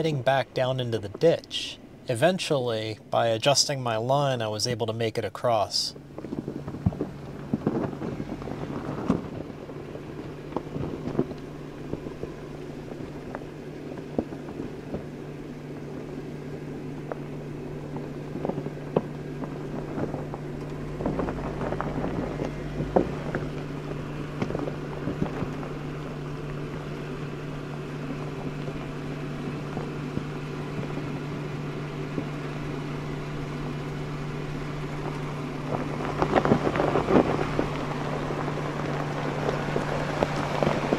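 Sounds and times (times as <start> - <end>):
off-road vehicle engine running: 0.0 - 40.9
tyres grinding over gravel: 5.4 - 40.9.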